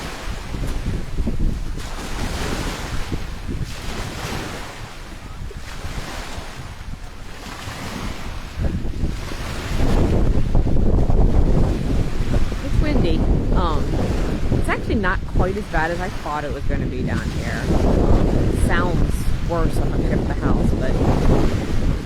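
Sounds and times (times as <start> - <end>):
strong gusty wind: 0.0 - 22.0
wind buffeting microphone: 0.0 - 22.0.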